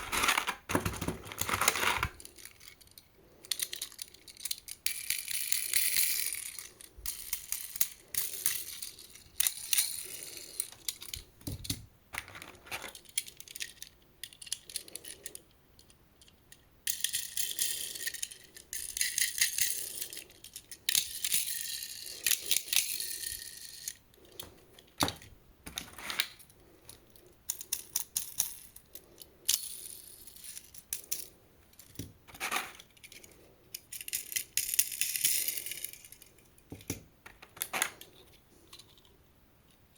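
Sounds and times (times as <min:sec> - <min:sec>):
toy cars clattering: 0:00.0 - 0:39.2.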